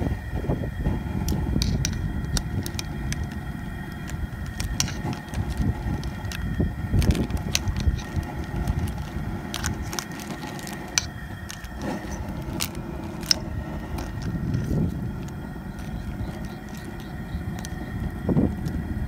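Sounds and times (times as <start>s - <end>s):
pot at a rolling boil: 0.0s - 19.0s.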